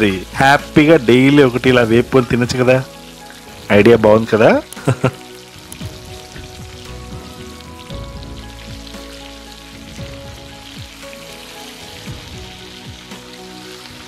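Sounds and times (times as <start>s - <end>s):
background music: 0.0s - 14.0s
fish frying in oil: 0.0s - 14.0s.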